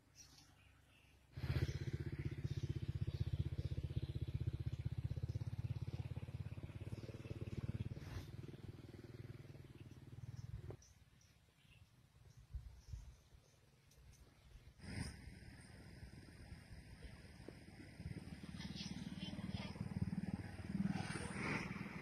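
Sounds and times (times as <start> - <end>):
engine running with low pulse: 0.0 - 22.0.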